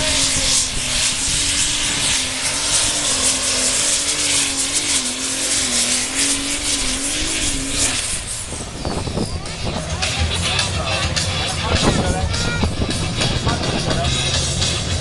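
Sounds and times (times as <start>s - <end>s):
diesel engine revving high: 0.0s - 15.0s
heavy rushing roar: 0.0s - 15.0s.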